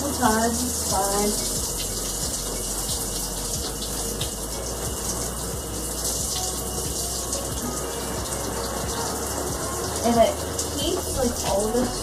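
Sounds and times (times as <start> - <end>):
shower water spraying: 0.0 - 12.0.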